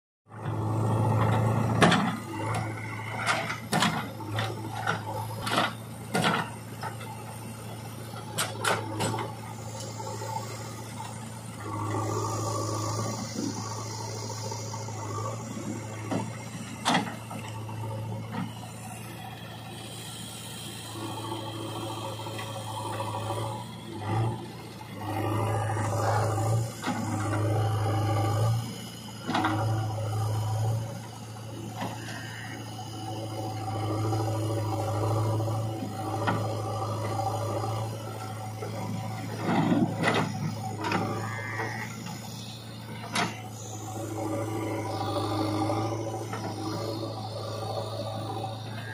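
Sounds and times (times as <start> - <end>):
diesel engine under load: 0.3 - 48.9.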